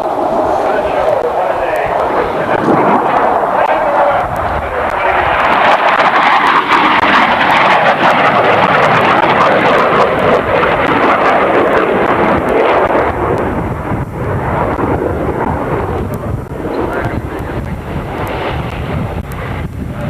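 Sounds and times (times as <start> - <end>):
aircraft engine roar: 0.0 - 20.0.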